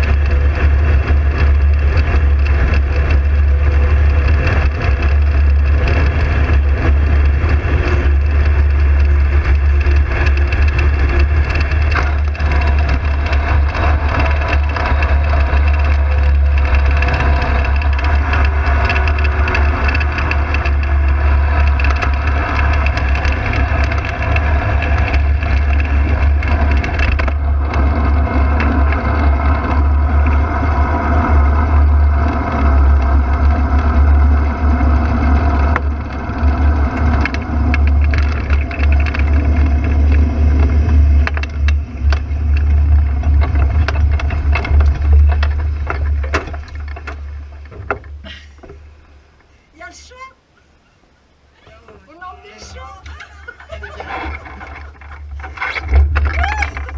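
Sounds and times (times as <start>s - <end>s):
wind rumble on microphone: 0.0s - 48.7s
engine drone: 0.0s - 56.9s.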